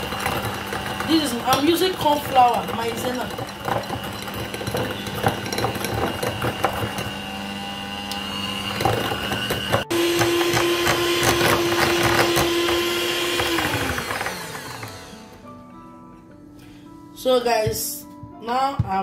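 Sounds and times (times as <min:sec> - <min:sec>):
electric hand mixer whirring: 0:00.0 - 0:15.5.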